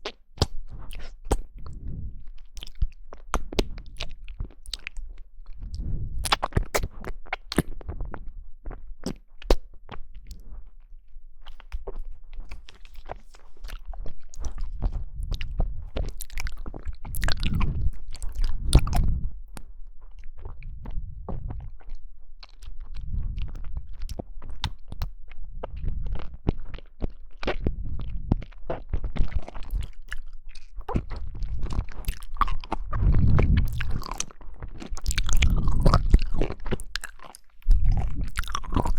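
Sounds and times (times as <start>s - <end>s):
person chewing jelly: 0.0s - 38.9s.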